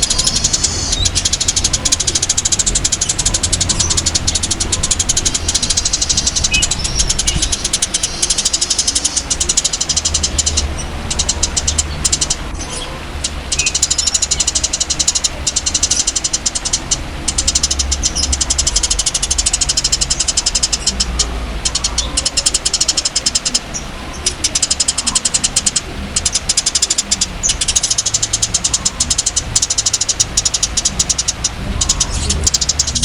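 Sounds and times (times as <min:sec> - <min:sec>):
songbird rattling trill: 0:00.0 - 0:33.0
steady low rumble: 0:00.0 - 0:33.0.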